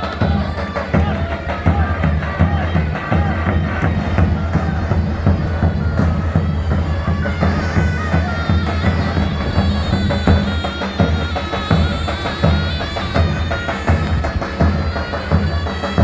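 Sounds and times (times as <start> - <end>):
reed wind instrument melody: 0.0 - 16.0.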